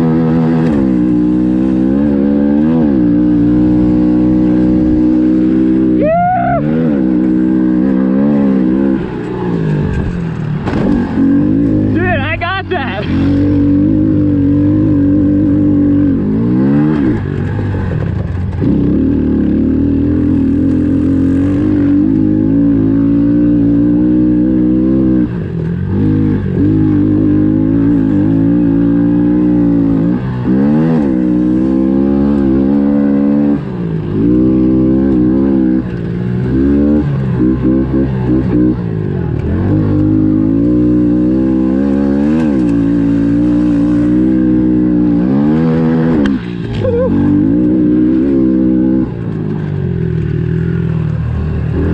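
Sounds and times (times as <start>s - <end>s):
motorcycle engine revving high: 0.0s - 51.9s.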